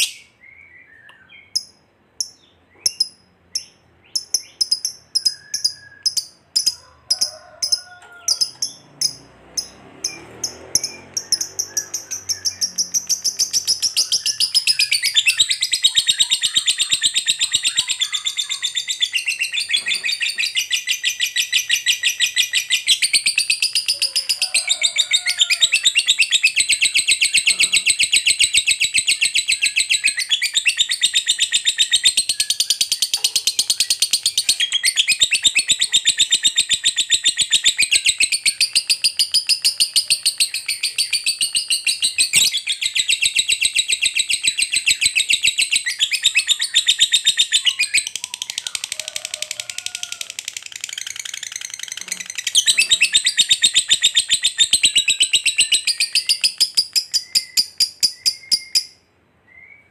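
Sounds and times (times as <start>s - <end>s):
lovebird chattering trill: 1.4s - 7.7s, 8.3s - 59.0s.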